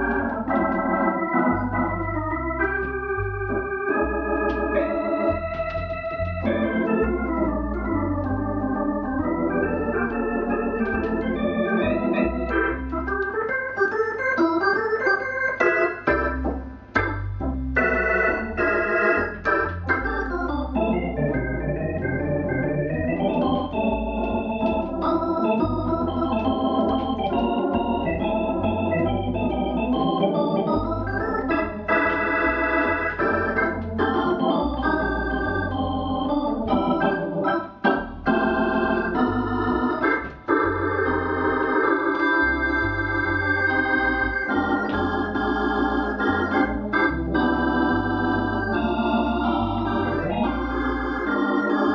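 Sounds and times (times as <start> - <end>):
electronic organ playing: 0.0 - 51.9.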